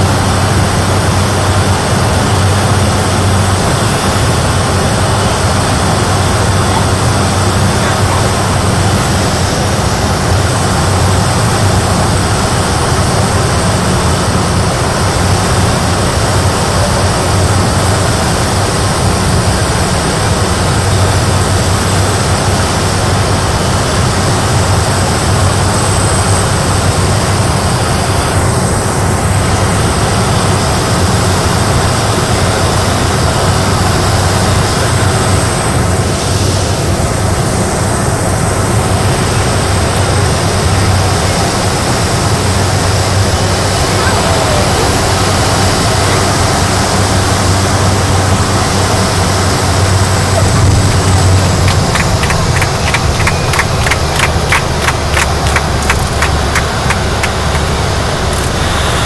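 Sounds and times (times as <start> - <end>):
thin high engine whine: 0.0 - 59.0
turboprop engine drone: 0.0 - 59.0.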